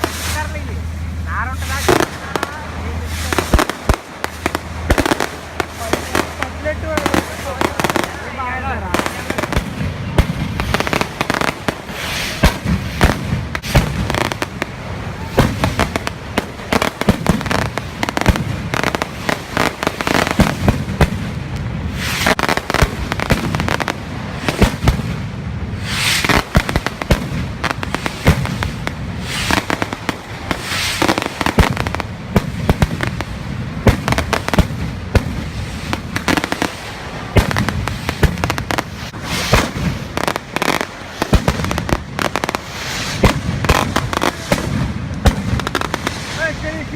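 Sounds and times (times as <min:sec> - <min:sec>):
fireworks and firecrackers banging: 0:00.0 - 0:46.9.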